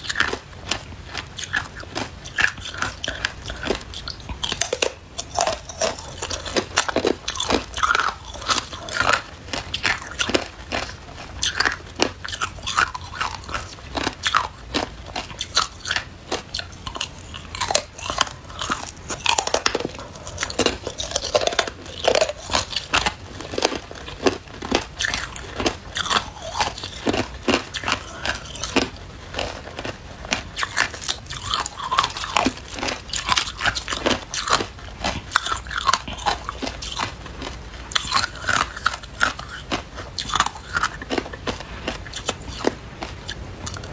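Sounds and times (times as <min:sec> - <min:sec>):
ice crunching being chewed: 0:00.0 - 0:43.9.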